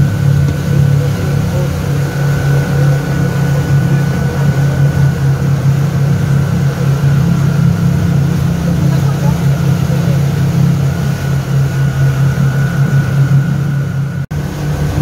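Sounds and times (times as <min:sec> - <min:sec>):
motorboat engine droning: 0:00.0 - 0:15.0
rush of boat wake: 0:00.0 - 0:15.0.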